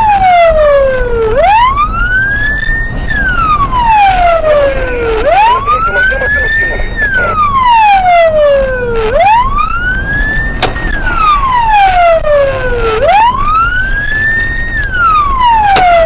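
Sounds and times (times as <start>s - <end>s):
engine and road rumble: 0.0s - 16.0s
police siren wailing: 0.0s - 16.0s.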